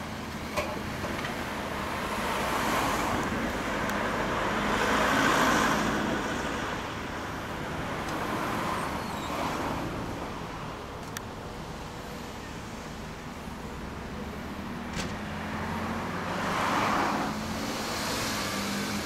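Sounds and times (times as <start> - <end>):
vehicles driving past: 0.0 - 19.0.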